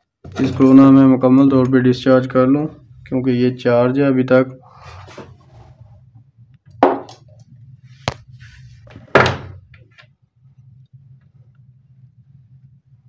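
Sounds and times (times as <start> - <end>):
low hum: 0.3 - 13.0.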